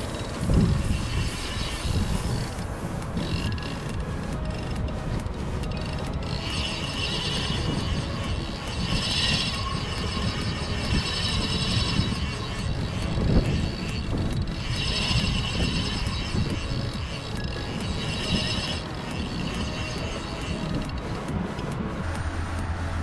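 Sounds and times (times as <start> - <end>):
fishing reel gears whirring: 0.0 - 23.0
wind buffeting microphone: 0.0 - 23.0.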